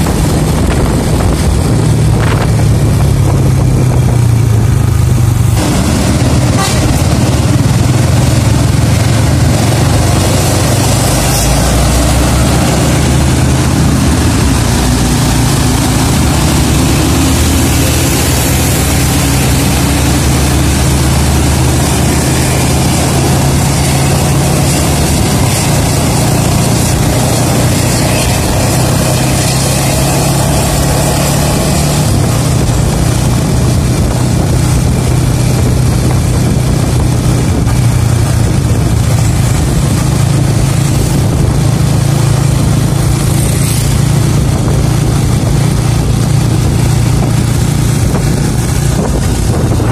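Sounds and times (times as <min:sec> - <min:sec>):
road traffic engine noise: 0:00.0 - 0:49.9.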